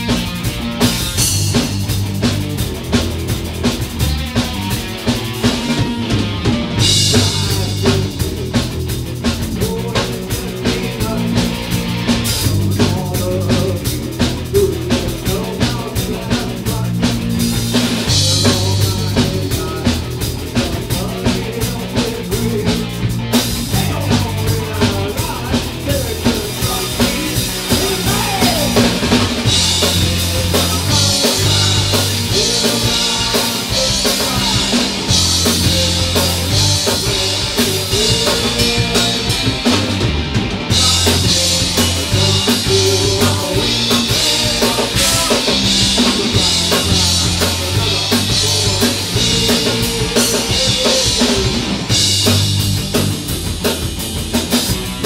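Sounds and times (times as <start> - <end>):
drum kit beat: 0.0 - 55.0
electric bass: 0.0 - 55.0
electric guitar: 0.0 - 55.0.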